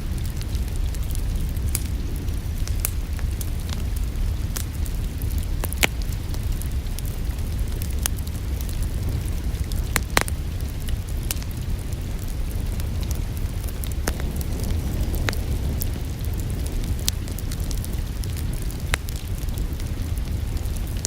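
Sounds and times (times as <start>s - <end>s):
sharp fire pops: 0.0s - 21.0s
wood fire crackling: 0.0s - 21.0s.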